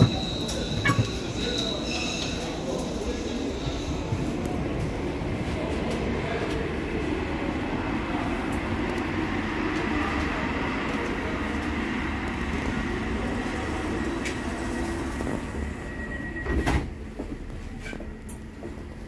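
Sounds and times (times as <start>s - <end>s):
light-rail car rumble and hum: 0.0s - 19.0s.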